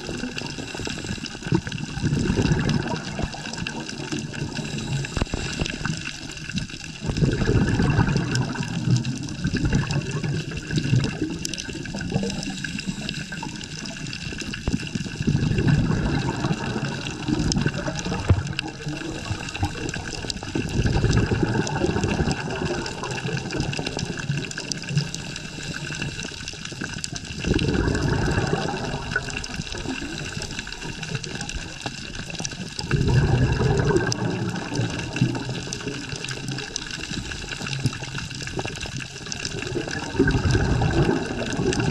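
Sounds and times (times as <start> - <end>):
diver bubbles gurgling: 0.0 - 41.9
underwater hiss: 0.1 - 31.7, 32.3 - 41.9.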